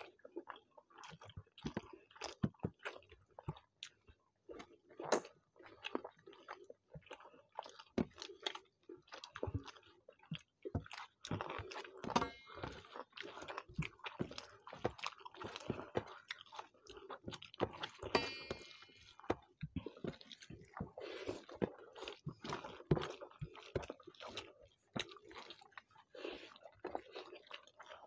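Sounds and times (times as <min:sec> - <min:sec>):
wet chewing noises: 0:00.0 - 0:18.2, 0:18.9 - 0:28.0.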